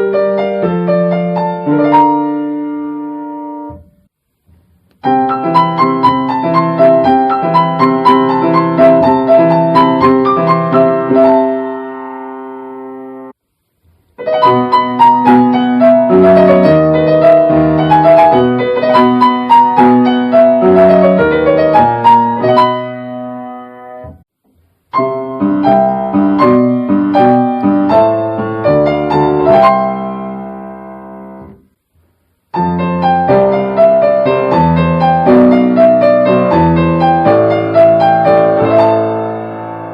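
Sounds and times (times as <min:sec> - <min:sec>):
solo piano melody: 0:00.0 - 0:39.9.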